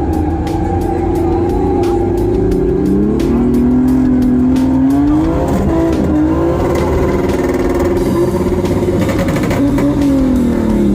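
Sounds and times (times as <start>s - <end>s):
car engine revving: 0.0s - 10.9s
music: 0.0s - 10.9s.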